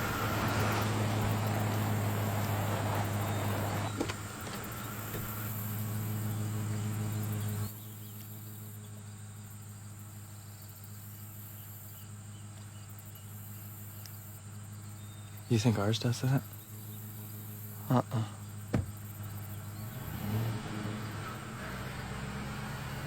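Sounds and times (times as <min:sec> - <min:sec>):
insects chirping: 0:00.0 - 0:23.0
vehicle engine idling: 0:00.0 - 0:23.0.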